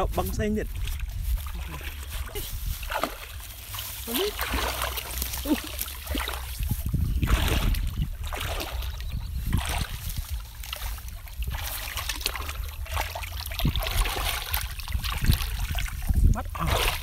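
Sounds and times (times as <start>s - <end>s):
mud squelching: 0.0s - 17.0s
water splashing and sloshing: 0.0s - 17.0s.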